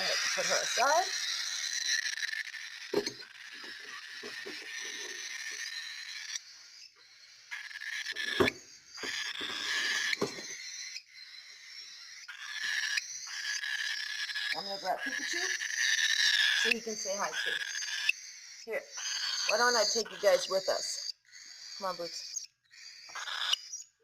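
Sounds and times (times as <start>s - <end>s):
baby bird raspy begging cry: 0.0s - 24.0s.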